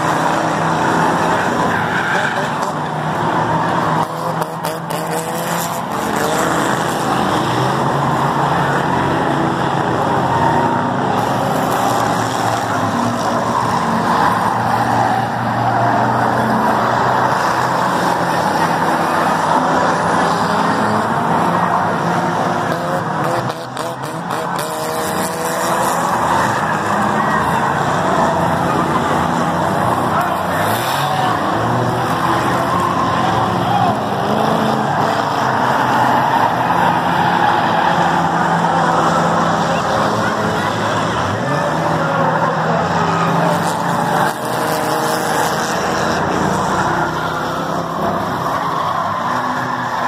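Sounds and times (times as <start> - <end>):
race car engines: 0.0 - 50.0.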